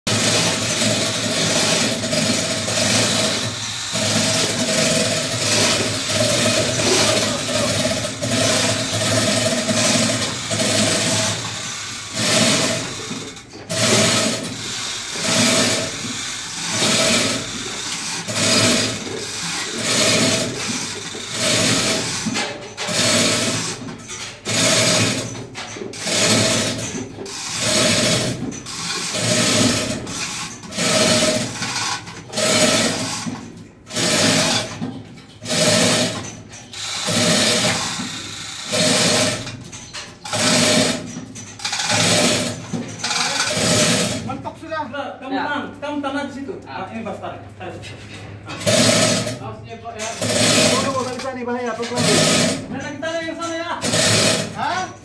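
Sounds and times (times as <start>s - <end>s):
chain hoists rattling and ratcheting: 0.1s - 44.5s, 47.5s - 55.0s.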